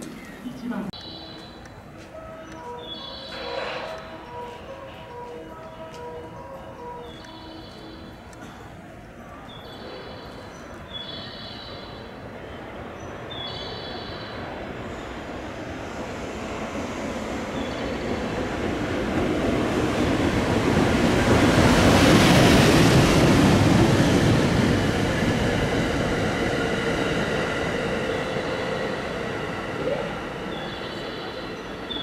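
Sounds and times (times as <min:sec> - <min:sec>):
train passing on rails: 0:00.0 - 0:32.0.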